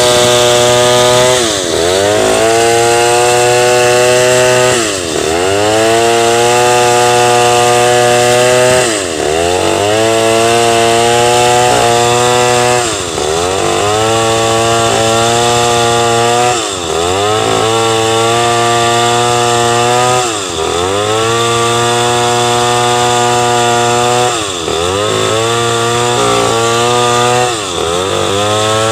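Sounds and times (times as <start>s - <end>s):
chainsaw revving: 0.0s - 28.9s.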